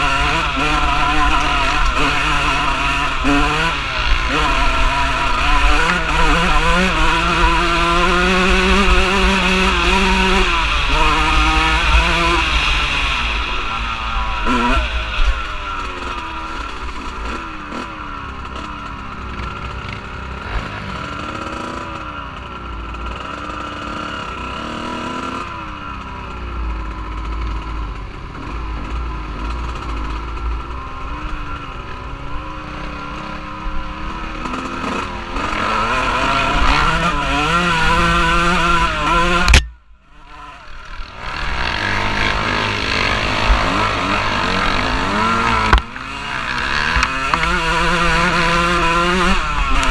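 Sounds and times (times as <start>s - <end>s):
off-road vehicle engine revving: 0.0s - 49.9s.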